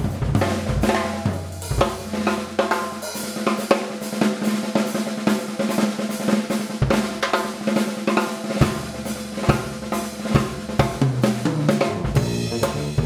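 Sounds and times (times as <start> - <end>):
drum kit solo: 0.0 - 13.0.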